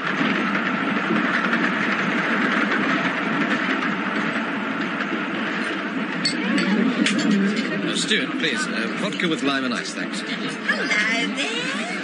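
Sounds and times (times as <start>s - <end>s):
passenger train running on rails: 0.0s - 12.0s.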